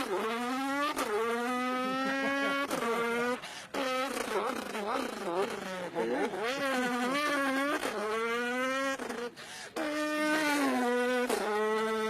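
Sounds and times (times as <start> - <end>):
man imitating racing car engine: 0.0 - 12.0.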